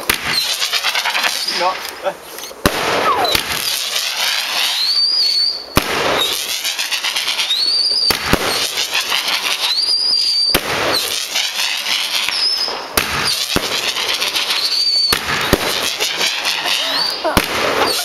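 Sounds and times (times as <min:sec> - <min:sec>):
rising firework whistles: 0:00.0 - 0:01.7, 0:02.3 - 0:18.0
firework bangs: 0:00.0 - 0:18.0
firework crackling: 0:00.0 - 0:18.0.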